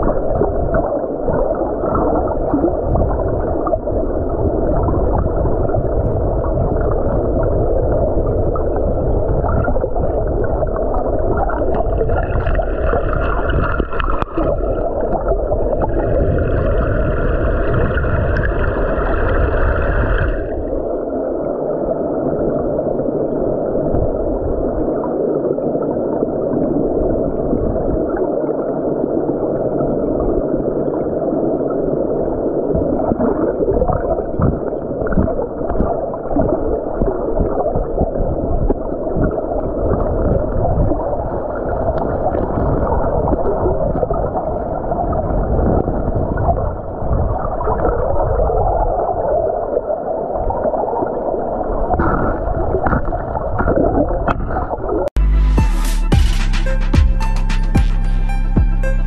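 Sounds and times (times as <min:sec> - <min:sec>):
muffled underwater stream rush: 0:00.0 - 0:55.2.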